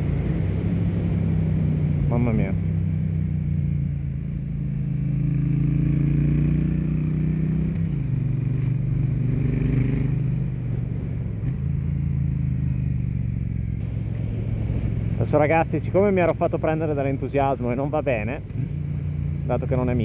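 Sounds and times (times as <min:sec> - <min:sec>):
motorcycle exhaust note: 0:00.0 - 0:20.0.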